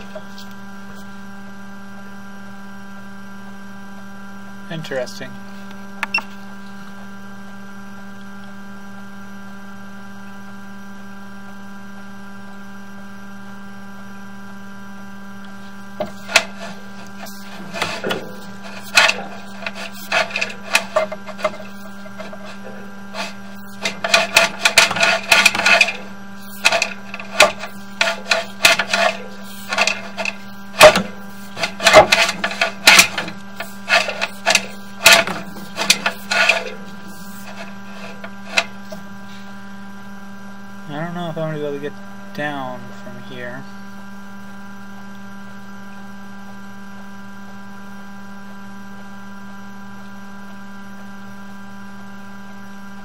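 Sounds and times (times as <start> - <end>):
electrical hum: 0.0 - 53.0.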